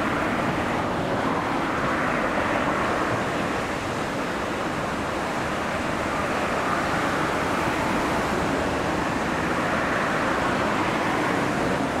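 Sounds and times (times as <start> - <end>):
electric train rumbling in tunnel: 0.0 - 12.0.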